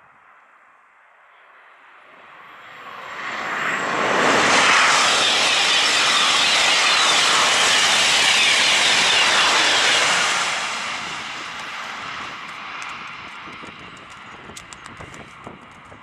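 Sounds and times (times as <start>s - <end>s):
high-speed train passing: 1.5s - 16.0s.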